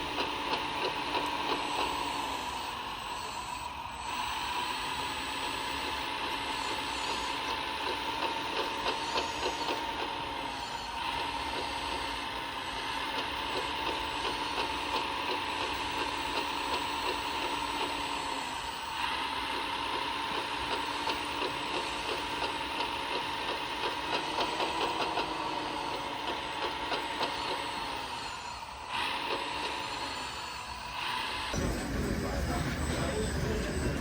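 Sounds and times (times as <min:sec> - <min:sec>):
small mechanical clicks: 0:00.0 - 0:31.6
model truck motor whine: 0:00.0 - 0:34.0.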